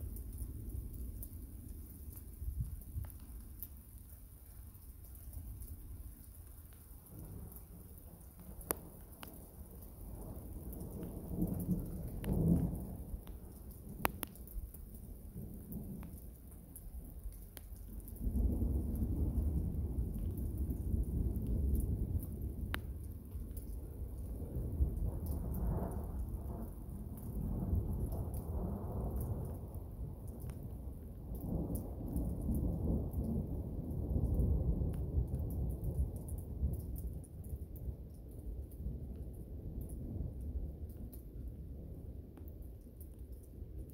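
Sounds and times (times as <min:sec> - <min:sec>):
raindrop taps: 0:00.0 - 0:33.5, 0:34.1 - 0:41.4, 0:42.3 - 0:43.9
falling rain: 0:00.0 - 0:43.9
thunder rumbling: 0:07.0 - 0:43.1.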